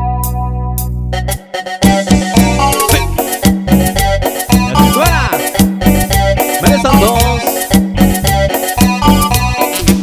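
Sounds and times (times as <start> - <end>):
electronic keyboard cumbia music: 0.0 - 10.0.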